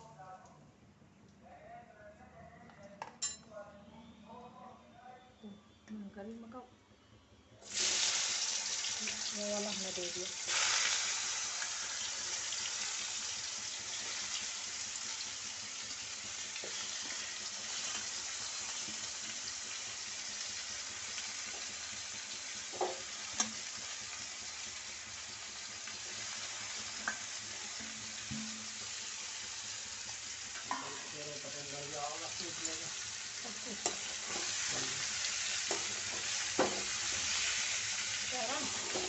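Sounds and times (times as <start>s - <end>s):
oil sizzling in a wok: 7.6s - 39.0s.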